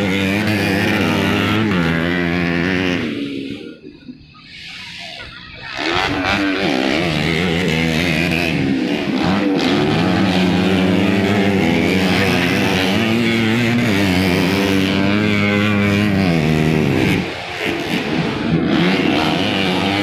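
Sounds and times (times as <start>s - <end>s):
motorbike engines revving: 0.0s - 20.0s.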